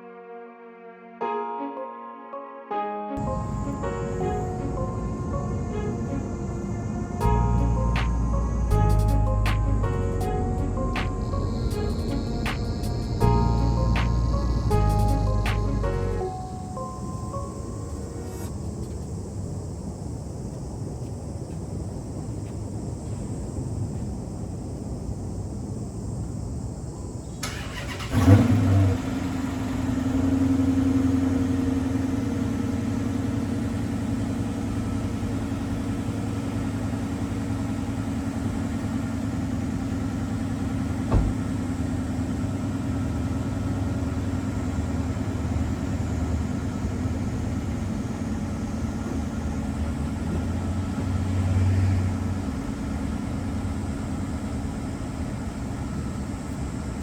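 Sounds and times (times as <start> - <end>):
car engine cold-start idle: 3.2 - 19.0, 26.3 - 57.0.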